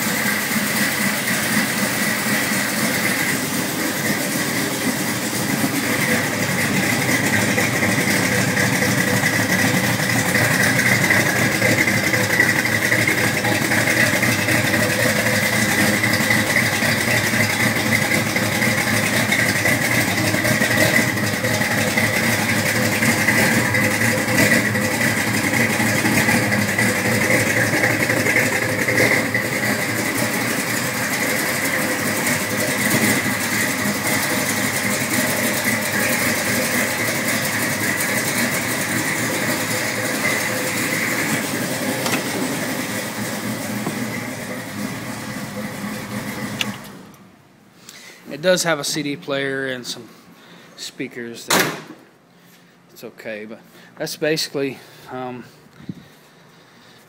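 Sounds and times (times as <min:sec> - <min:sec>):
pickup truck engine idling: 0:00.0 - 0:47.2.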